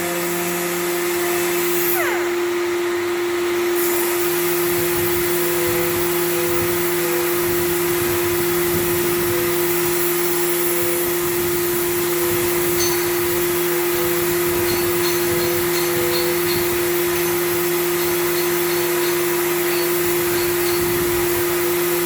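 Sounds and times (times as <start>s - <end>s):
power sander running: 0.0s - 22.0s.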